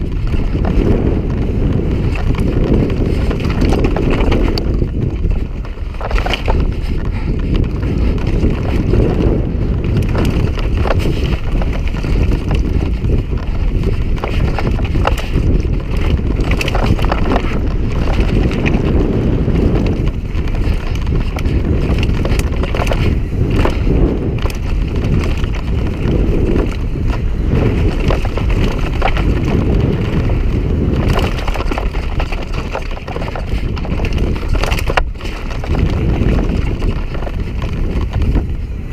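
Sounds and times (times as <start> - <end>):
tyres crunching over stones: 0.0 - 38.6
bike rattling and knocking: 0.0 - 38.9
wind buffeting microphone: 0.0 - 38.9.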